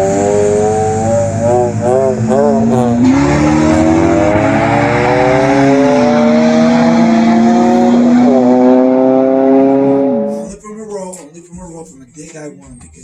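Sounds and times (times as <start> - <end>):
car engine accelerating: 0.0 - 10.6.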